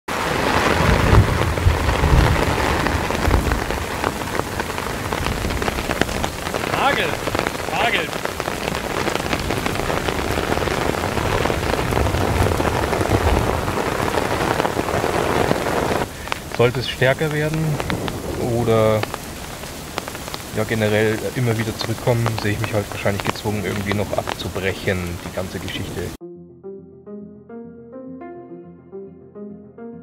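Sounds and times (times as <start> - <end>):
heavy rain on a tarp: 0.1 - 26.2
low thunder rumbling: 0.2 - 26.0.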